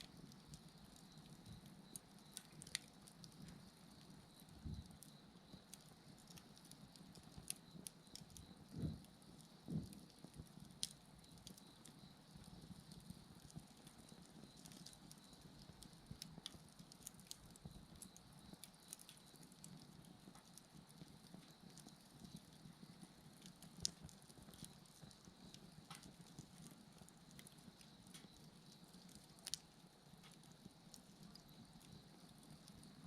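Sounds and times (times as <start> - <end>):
insects chirping: 0.0 - 33.0
wood fire crackling: 0.0 - 33.0.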